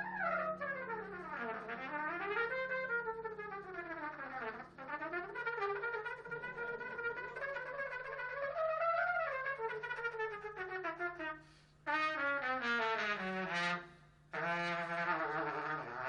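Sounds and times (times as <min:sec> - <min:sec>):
brass instrument ballad melody: 0:00.0 - 0:16.0.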